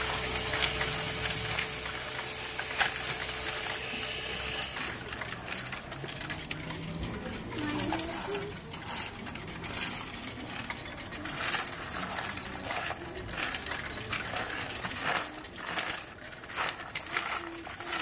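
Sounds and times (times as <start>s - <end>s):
coins clinking and jingling: 0.0s - 18.0s.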